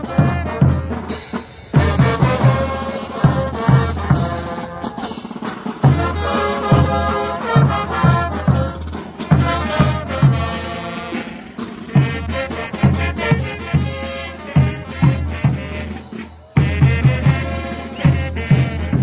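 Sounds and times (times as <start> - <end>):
brass instruments playing: 0.0 - 19.0.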